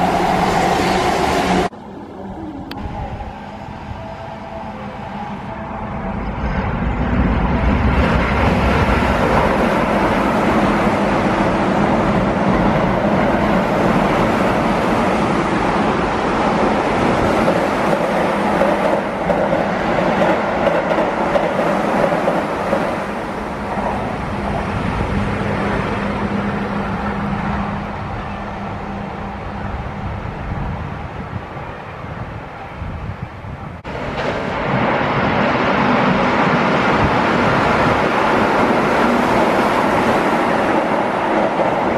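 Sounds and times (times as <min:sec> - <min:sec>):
electric train passing at speed: 0:00.0 - 0:41.9.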